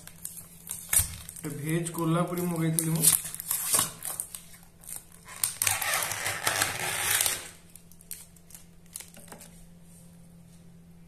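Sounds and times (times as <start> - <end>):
plastic crinkling and crackling: 0.0 - 9.7.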